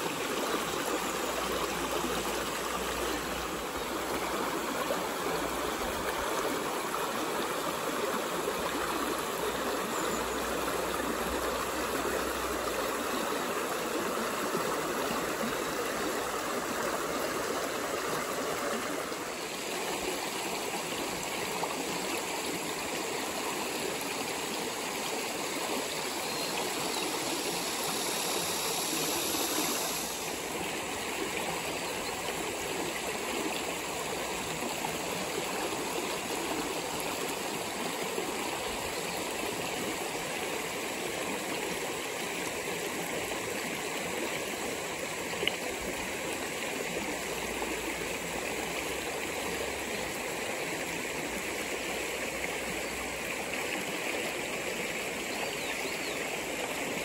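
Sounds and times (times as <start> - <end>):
creek running over pebbles: 0.0 - 57.0.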